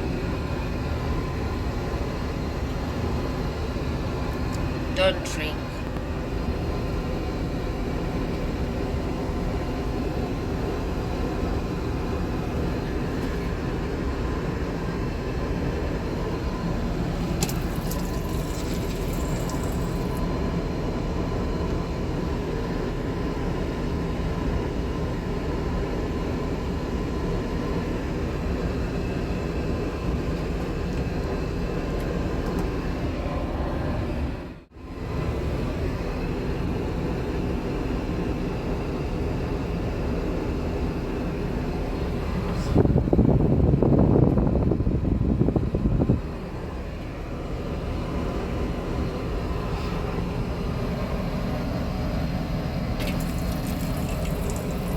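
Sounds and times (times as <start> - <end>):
airliner cabin engine rush: 0.0 - 54.9.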